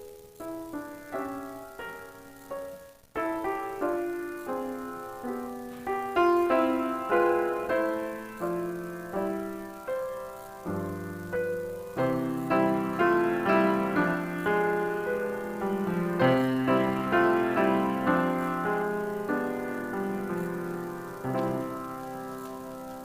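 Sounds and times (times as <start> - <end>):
piano playing slow chords: 0.0 - 23.0.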